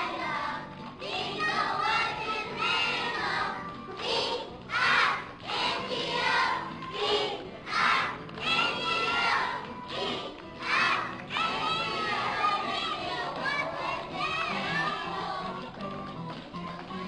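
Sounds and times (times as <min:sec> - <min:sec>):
young children singing: 0:00.0 - 0:15.7.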